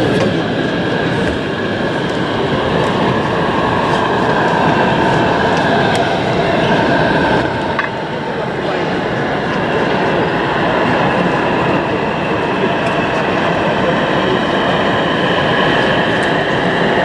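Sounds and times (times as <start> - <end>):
model train rolling hum: 0.0 - 17.0.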